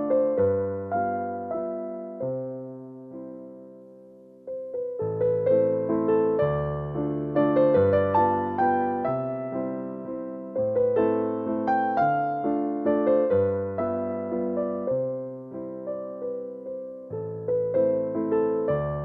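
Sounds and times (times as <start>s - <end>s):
slow piano tune: 0.0s - 19.0s.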